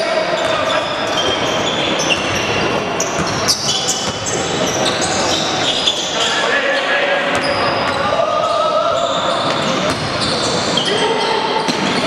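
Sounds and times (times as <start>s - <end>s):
shoes squeaking: 0.2s - 12.0s.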